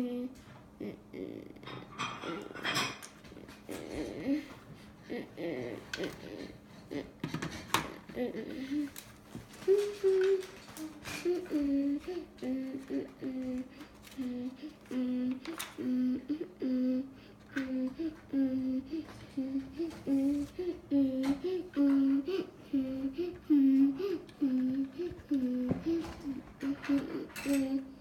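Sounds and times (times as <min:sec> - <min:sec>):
boy humming a tune: 0:00.0 - 0:28.0.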